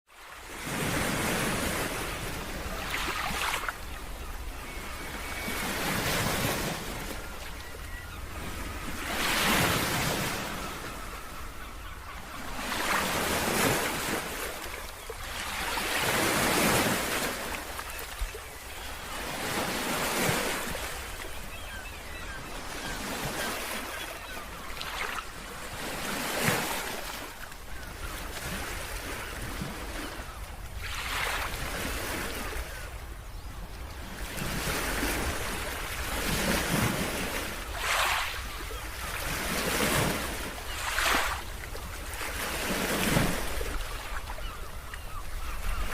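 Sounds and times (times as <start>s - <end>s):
ocean waves breaking: 0.2s - 45.9s.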